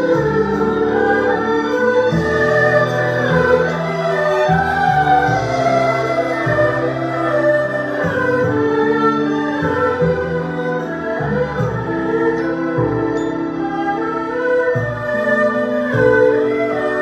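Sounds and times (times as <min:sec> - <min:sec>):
bowed string ensemble melody: 0:00.0 - 0:17.0.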